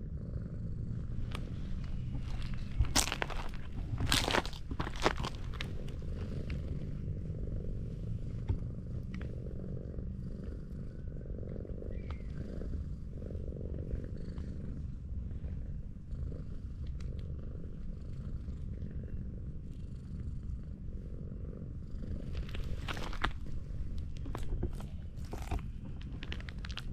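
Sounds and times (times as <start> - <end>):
cat purring: 0.0 - 26.9.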